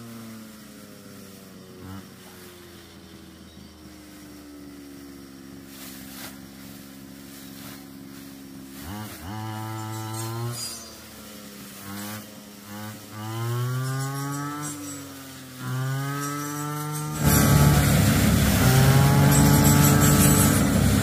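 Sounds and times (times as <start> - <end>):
rice straw rustling: 0.0 - 21.0
small engine running: 0.0 - 21.0.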